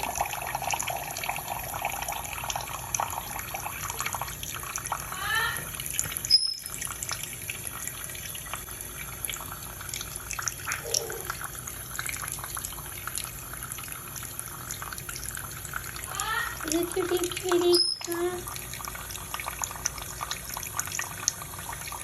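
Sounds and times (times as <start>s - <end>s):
water splashes and drips: 0.0s - 22.0s.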